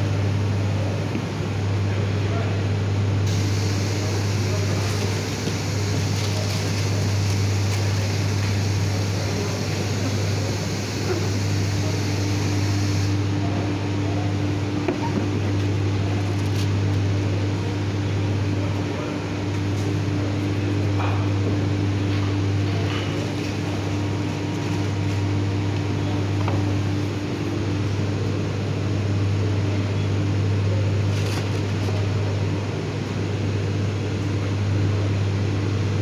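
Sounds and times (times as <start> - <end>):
factory machinery humming: 0.0 - 36.0.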